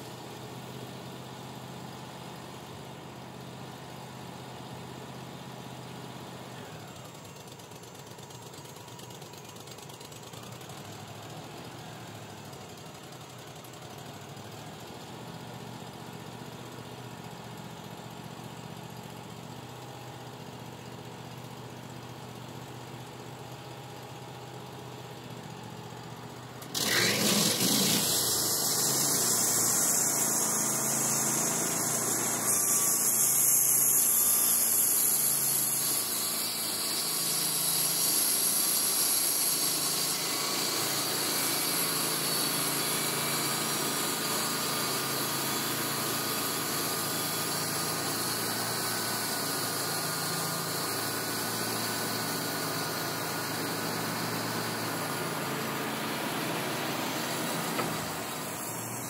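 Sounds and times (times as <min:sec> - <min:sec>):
sawmill running: 0:00.0 - 0:59.0.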